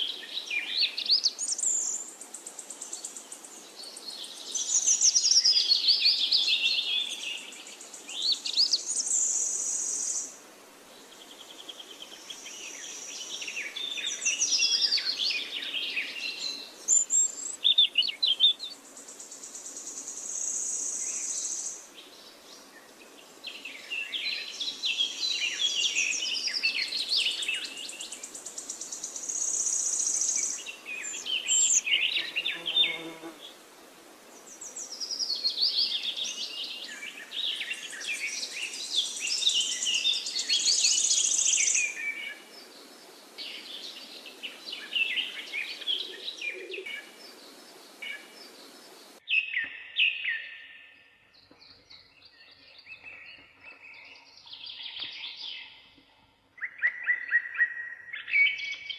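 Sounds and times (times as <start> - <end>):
songbirds singing: 0.0 - 33.6, 34.2 - 58.9
background hiss: 0.0 - 49.4.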